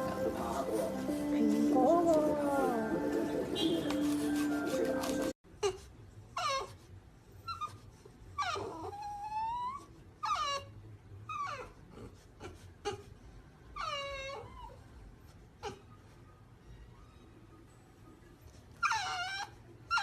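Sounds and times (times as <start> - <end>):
puppy whining: 0.0 - 17.7, 18.5 - 20.0.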